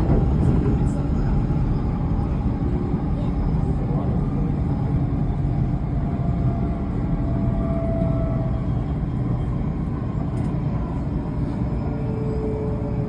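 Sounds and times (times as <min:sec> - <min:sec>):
train rumbling along track: 0:00.0 - 0:13.0.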